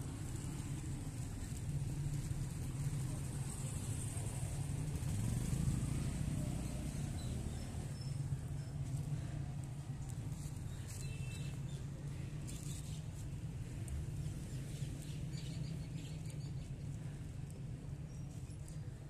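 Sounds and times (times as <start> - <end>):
city traffic hum: 0.0 - 19.0.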